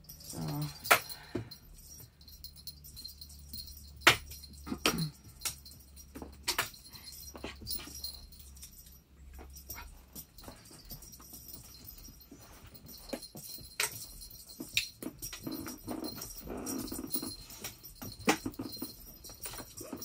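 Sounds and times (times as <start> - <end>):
low steady hum: 0.0 - 20.0
toy and paws tapping carpet: 0.0 - 20.0.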